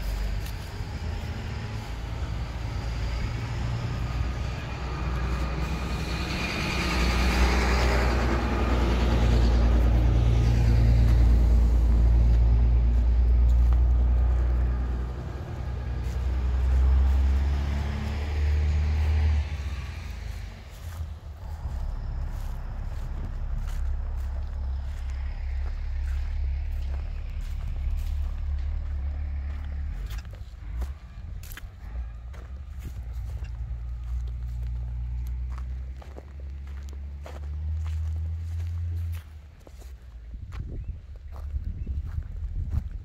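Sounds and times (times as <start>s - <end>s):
car engine hum: 0.0s - 43.0s
tyres on dirt road: 0.0s - 43.0s.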